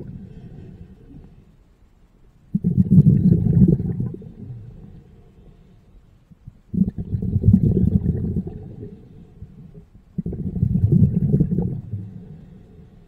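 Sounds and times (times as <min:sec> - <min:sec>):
underwater breath bubbling: 0:00.0 - 0:01.6, 0:02.5 - 0:13.0.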